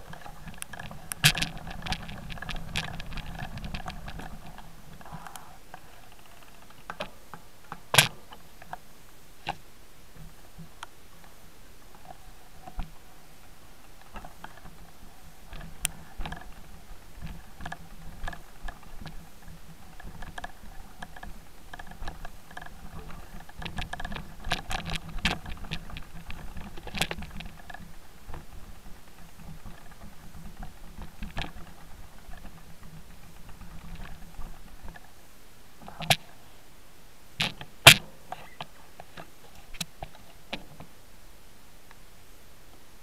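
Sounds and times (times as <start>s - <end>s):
bike clicking and rattling: 0.0s - 8.8s, 9.4s - 35.2s, 35.8s - 36.5s, 37.4s - 41.0s.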